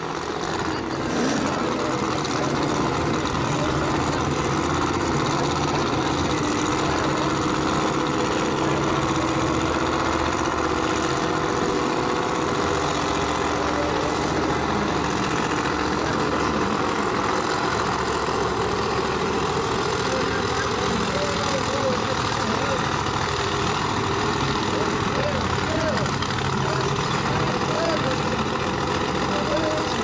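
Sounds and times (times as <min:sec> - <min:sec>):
drag-racing engine idling: 0:00.0 - 0:30.0.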